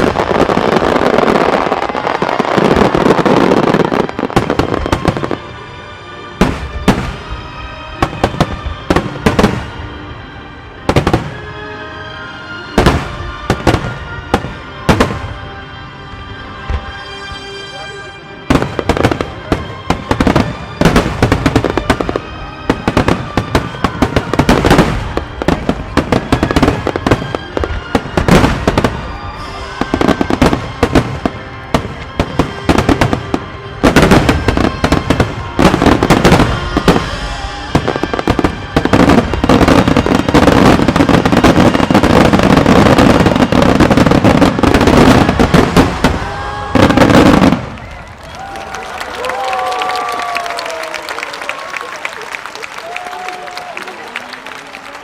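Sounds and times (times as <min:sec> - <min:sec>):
music playing: 0:00.0 - 0:55.0.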